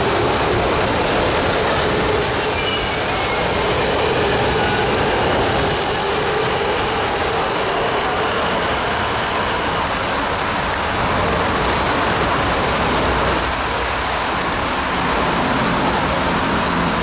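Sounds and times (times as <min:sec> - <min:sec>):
train wheel-on-rail noise: 0:00.0 - 0:17.0.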